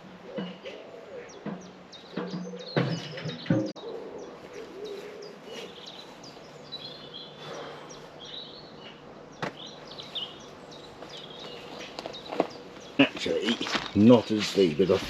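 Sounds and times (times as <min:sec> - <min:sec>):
birds chirping: 0:00.0 - 0:15.0
steady outdoor noise: 0:00.0 - 0:15.0.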